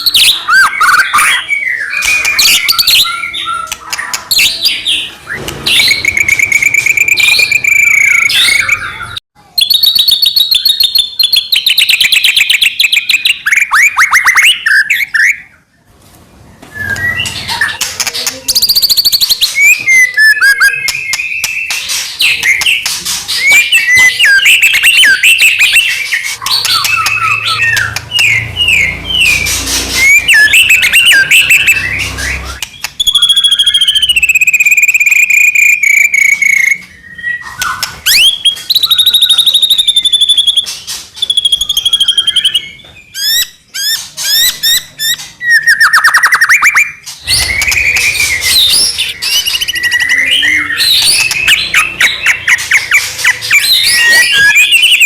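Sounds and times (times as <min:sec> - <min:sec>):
bird singing varied song: 0:00.0 - 0:15.9, 0:16.5 - 0:55.0.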